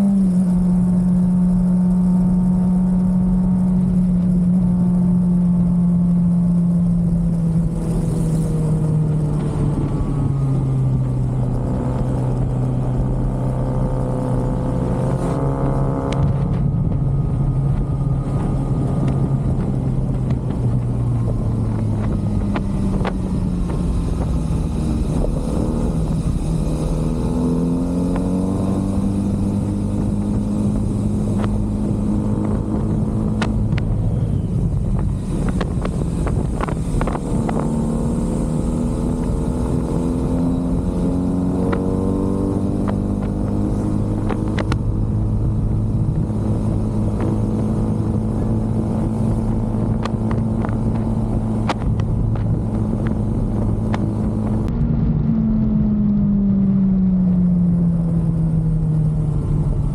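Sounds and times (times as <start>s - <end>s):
motorcycle engine revving: 0.0s - 59.9s
wind rush over microphone: 0.0s - 59.9s.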